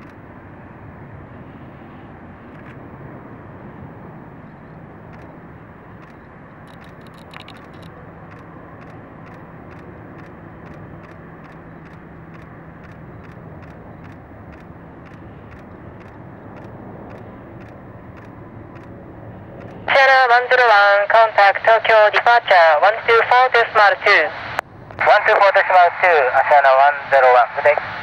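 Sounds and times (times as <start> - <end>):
jet engine roar: 0.0 - 28.0
low hum: 0.0 - 28.0.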